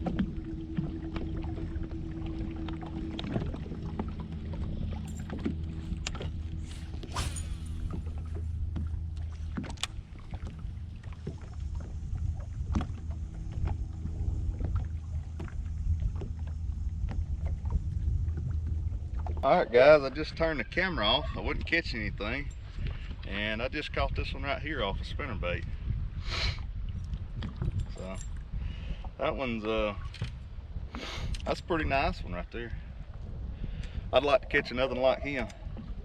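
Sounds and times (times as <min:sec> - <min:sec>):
boat motor humming: 0:00.0 - 0:36.0.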